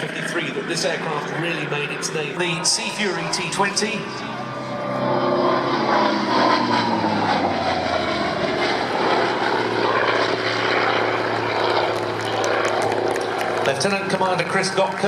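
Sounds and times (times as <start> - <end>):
propeller aircraft flying past: 0.0 - 15.0.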